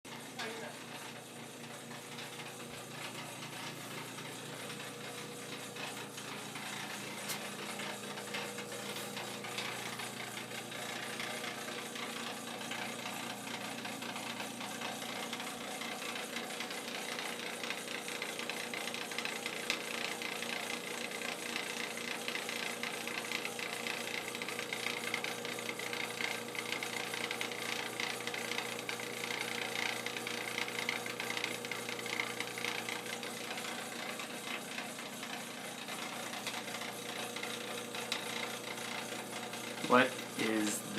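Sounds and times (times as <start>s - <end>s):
furnace rattle and hum: 0.1s - 40.9s.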